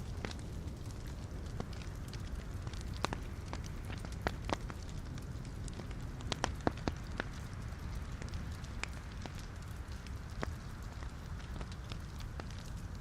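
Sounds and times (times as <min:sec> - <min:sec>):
rush of flames: 0:00.0 - 0:13.0
wood fire crackling: 0:00.0 - 0:13.0.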